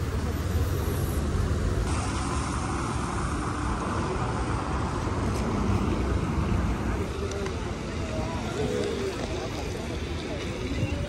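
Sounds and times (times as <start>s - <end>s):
cars passing on wet road: 0.0s - 10.7s
low traffic rumble: 0.0s - 11.0s.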